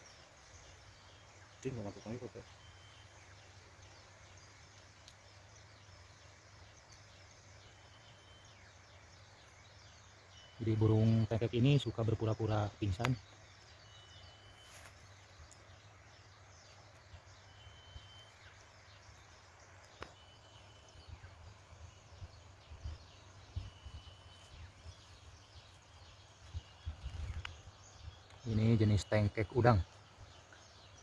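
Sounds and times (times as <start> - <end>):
light hiss: 0.0 - 10.4, 12.8 - 29.2.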